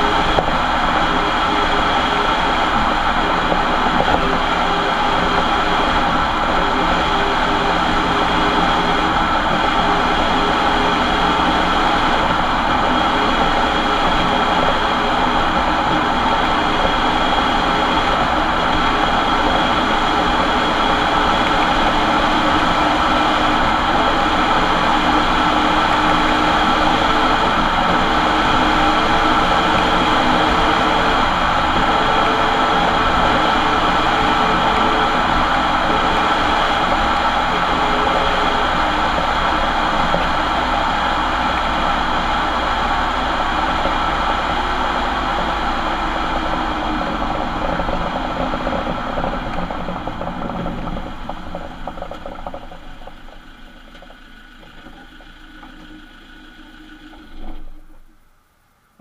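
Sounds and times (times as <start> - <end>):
road noise: 0.0 - 58.1
van differential whine: 0.0 - 59.0.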